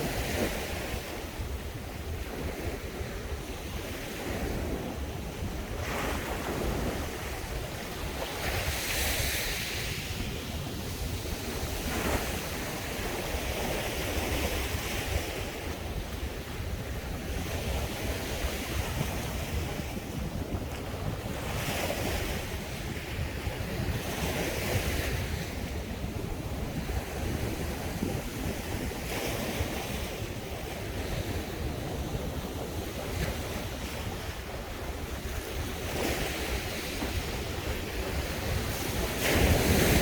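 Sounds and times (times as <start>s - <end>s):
sea waves breaking on beach: 0.0s - 40.0s
wind rumble on microphone: 0.0s - 40.0s.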